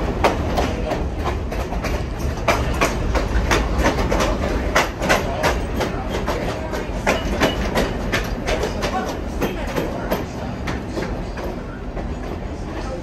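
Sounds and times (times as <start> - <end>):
low train rumble: 0.0 - 13.0
train wheels clicking over rail joints: 0.0 - 13.0.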